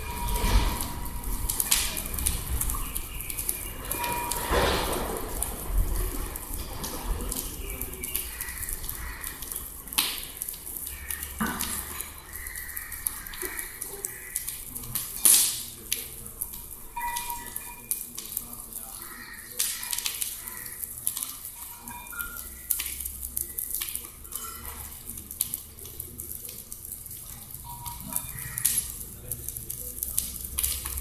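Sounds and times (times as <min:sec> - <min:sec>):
liquid sizzling in flames: 0:00.0 - 0:31.0
wood fire crackling: 0:00.0 - 0:31.0.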